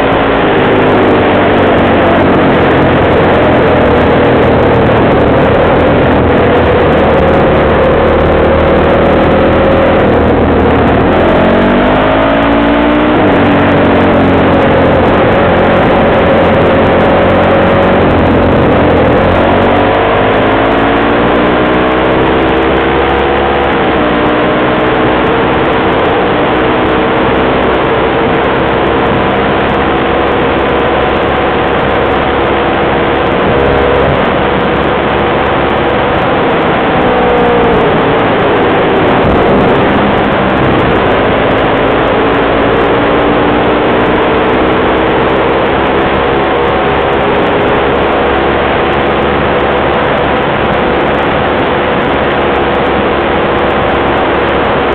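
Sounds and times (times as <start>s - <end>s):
atv engine running: 0.0s - 54.9s
wind rush: 0.0s - 54.9s.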